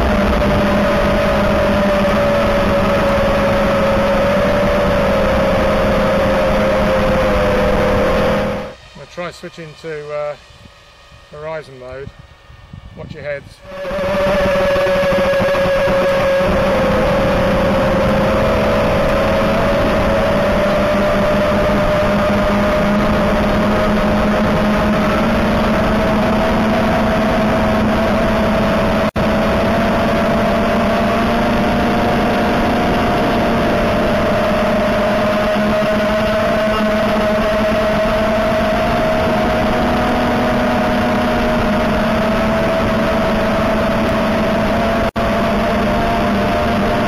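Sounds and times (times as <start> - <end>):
quadcopter motors buzzing: 0.0 - 47.0.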